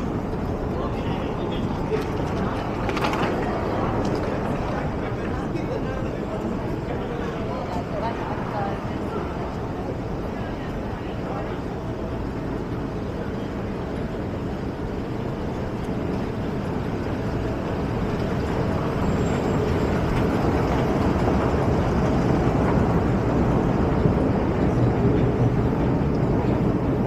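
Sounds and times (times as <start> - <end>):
escalator machinery rumble: 0.0 - 27.0.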